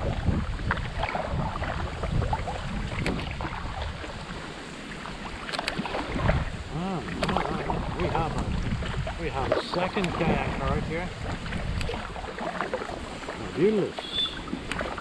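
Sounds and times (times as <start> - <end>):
paddle splashing water: 0.0 - 15.0
wind rumble on microphone: 0.0 - 15.0.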